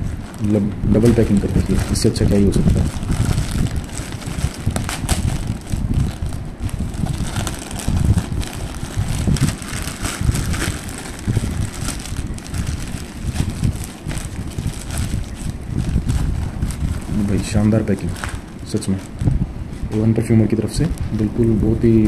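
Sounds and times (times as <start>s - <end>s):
plastic bag crinkling and tearing: 0.0s - 20.0s.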